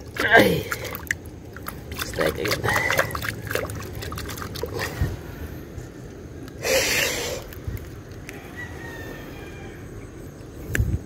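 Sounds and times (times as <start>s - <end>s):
quiet outdoor background: 0.0s - 11.0s.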